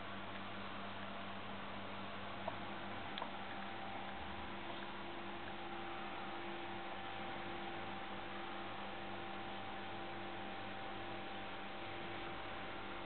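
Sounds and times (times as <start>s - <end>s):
tape hiss: 0.0s - 13.0s.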